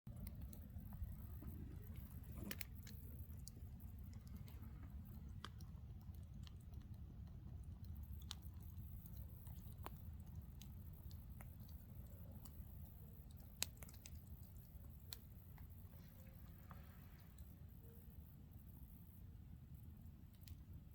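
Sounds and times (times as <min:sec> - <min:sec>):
faint campfire crackling: 0:00.1 - 0:20.9.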